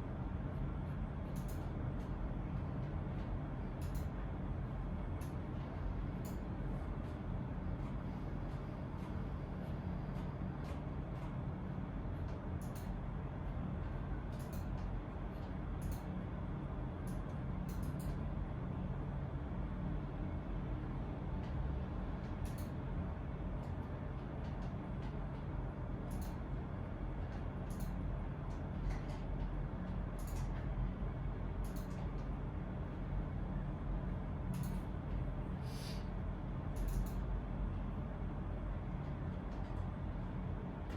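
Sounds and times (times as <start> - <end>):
low room rumble: 0.0 - 40.9.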